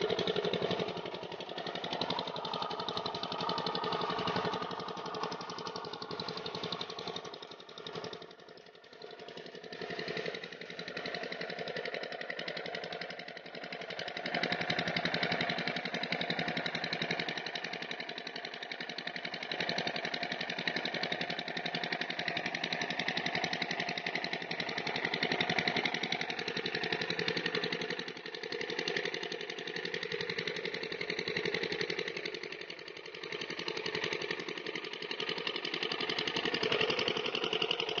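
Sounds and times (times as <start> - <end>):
diesel engine knocking: 0.0 - 38.0.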